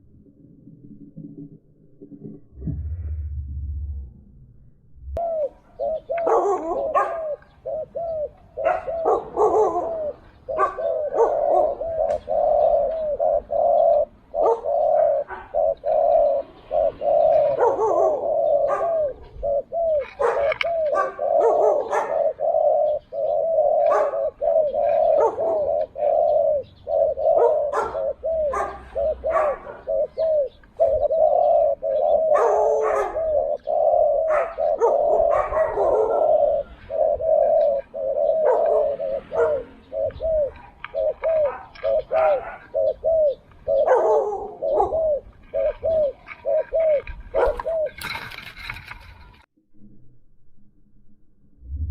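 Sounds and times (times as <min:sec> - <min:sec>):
doves cooing: 0:05.2 - 0:49.4.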